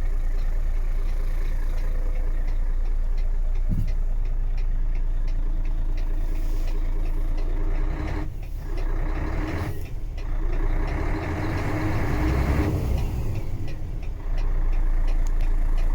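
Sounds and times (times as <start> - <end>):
truck diesel engine running: 0.0 - 15.9.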